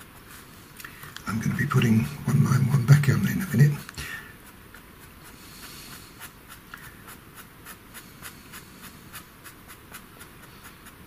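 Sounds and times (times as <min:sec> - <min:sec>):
pencil scratching on paper: 0:00.0 - 0:00.6, 0:01.4 - 0:11.0.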